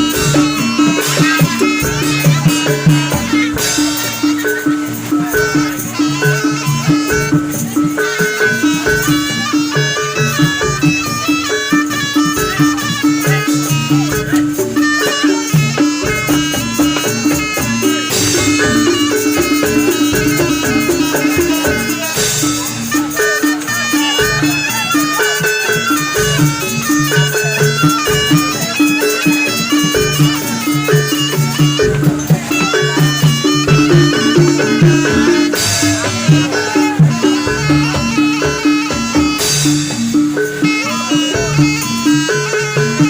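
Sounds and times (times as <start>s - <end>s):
drumming: 0.0s - 43.0s
reedy shawm melody: 0.0s - 43.0s.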